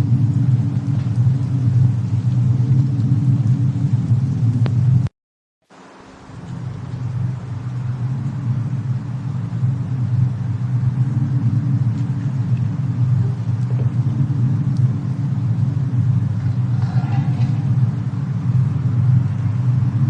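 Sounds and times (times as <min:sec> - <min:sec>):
snowstorm rumble: 0:00.0 - 0:05.1, 0:05.7 - 0:20.0
faint fire crackles: 0:00.0 - 0:20.0.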